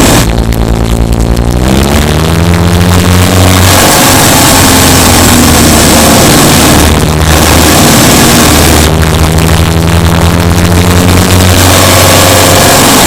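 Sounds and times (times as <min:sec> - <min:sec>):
car engine revving: 0:00.0 - 0:13.0
dense rushing noise: 0:00.0 - 0:13.0.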